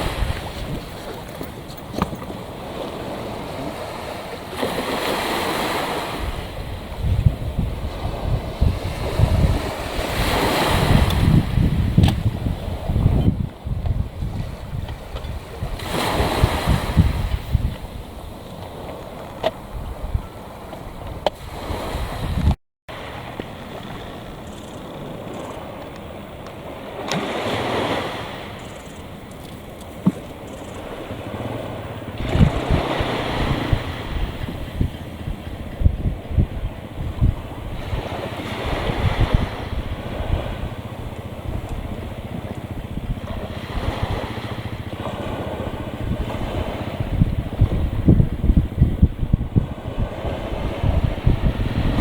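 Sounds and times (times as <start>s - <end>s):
small waves washing on shore: 0.0s - 52.0s
wind buffeting the microphone: 0.0s - 52.0s.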